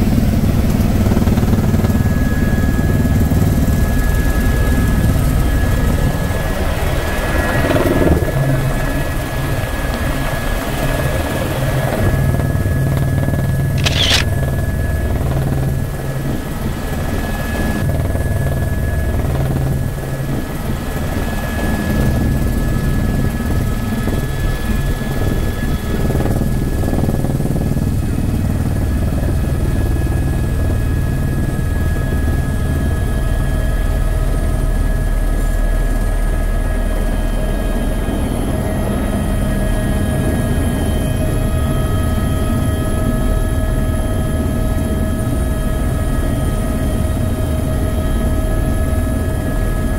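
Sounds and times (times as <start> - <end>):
helicopter rotor and turbine: 0.0 - 49.9.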